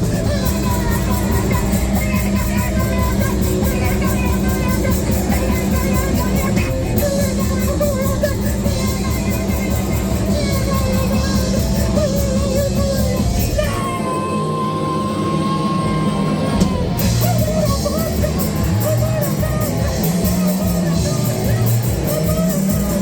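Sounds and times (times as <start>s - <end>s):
live rock band playing: 0.0s - 23.0s
person yelling vocals: 0.0s - 23.0s.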